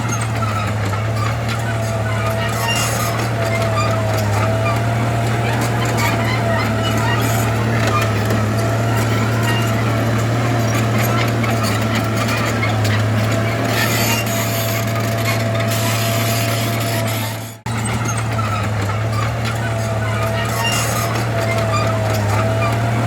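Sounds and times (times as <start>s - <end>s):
diesel engine droning under load: 0.0s - 23.0s.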